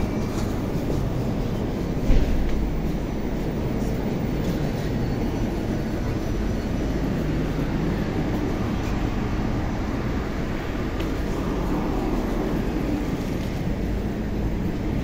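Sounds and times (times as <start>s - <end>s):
metro train rumble and hiss: 0.0s - 15.0s.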